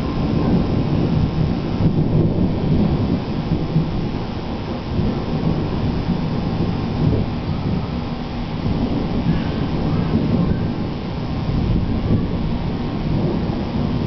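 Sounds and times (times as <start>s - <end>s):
low rumbling thunder: 0.0s - 14.0s.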